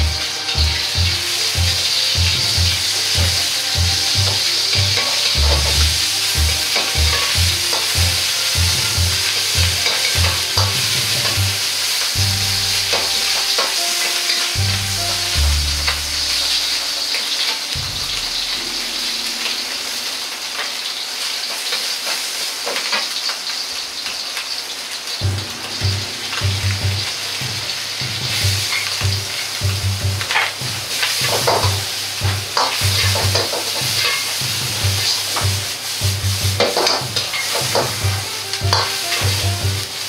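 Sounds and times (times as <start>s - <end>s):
metal ladle scraping a wok: 0.0s - 21.6s, 25.2s - 40.0s
meat sizzling in hot oil: 0.0s - 40.0s.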